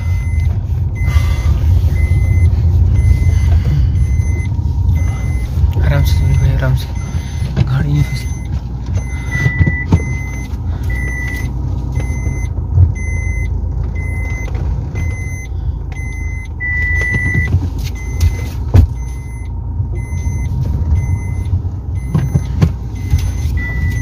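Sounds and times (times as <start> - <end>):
engine and tyres rumble: 0.0 - 24.0
parking sensor beeps: 0.0 - 24.0.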